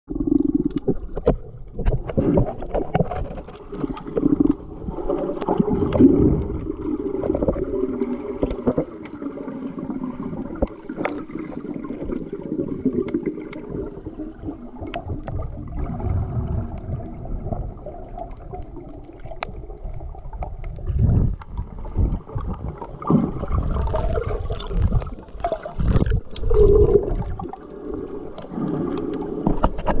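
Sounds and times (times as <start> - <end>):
water sloshing and gurgling: 0.1 - 30.0.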